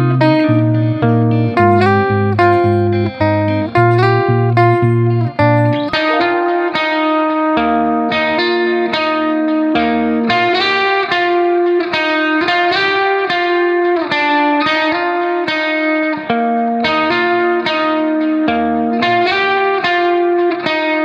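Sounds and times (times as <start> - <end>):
plucked instrumental music: 0.0 - 21.0.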